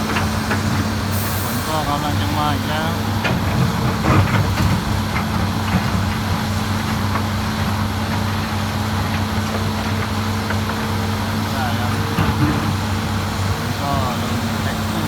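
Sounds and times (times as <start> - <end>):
diesel machinery humming: 0.0 - 15.0
machinery clatter: 1.7 - 15.0.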